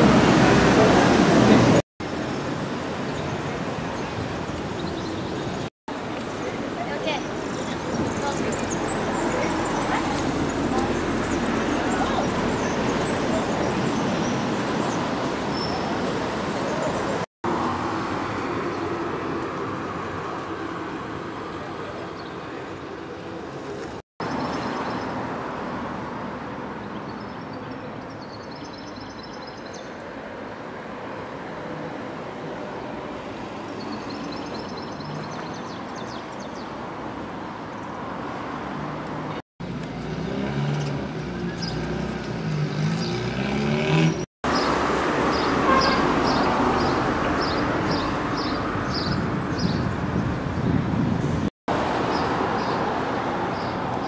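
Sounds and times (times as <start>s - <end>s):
car traffic noise: 0.0s - 54.0s.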